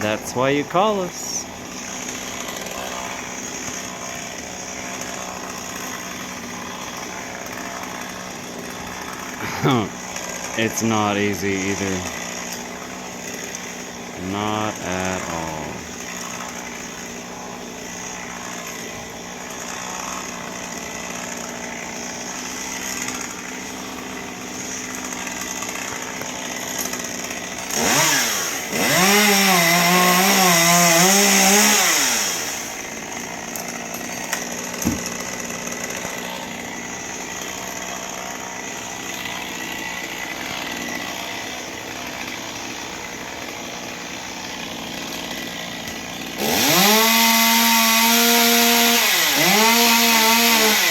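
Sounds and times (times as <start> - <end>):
chainsaw idling and cutting: 0.0 - 50.9.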